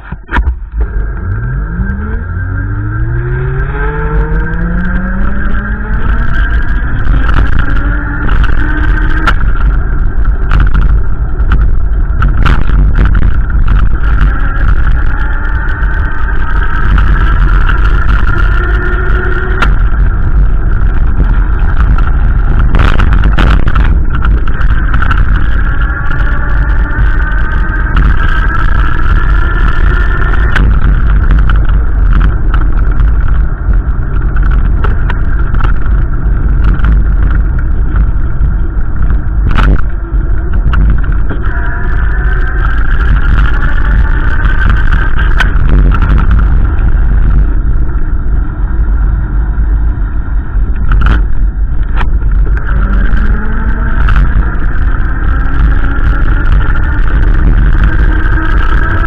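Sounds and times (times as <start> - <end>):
wind rumble on microphone: 0.0 - 59.0
vehicle engine rising in pitch: 0.7 - 59.0.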